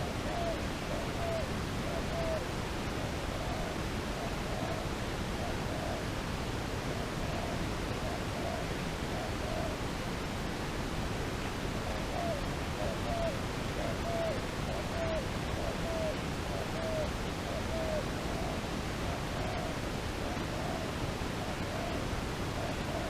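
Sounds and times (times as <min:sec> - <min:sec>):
dove cooing: 0:00.0 - 0:06.3, 0:06.9 - 0:10.0, 0:11.8 - 0:23.0
steady hiss: 0:00.0 - 0:23.0.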